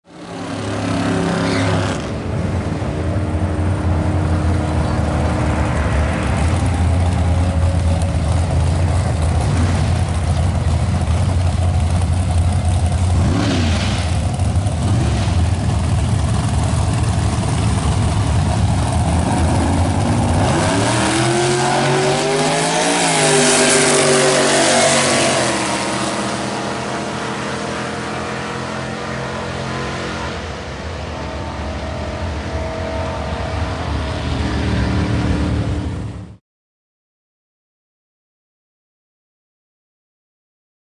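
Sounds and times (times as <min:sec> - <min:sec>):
drag car engine rumbling and revving: 0:00.1 - 0:36.4.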